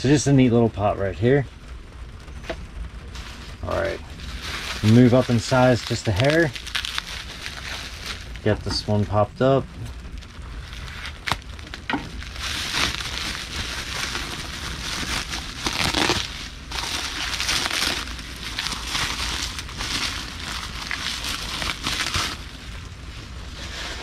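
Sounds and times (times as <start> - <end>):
bubble wrap crinkling: 3.0 - 24.0.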